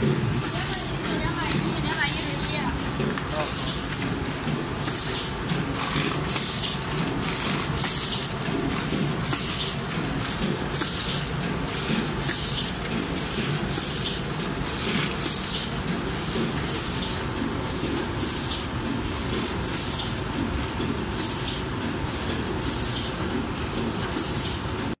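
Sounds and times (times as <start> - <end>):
packing machine rumble: 0.0 - 24.9.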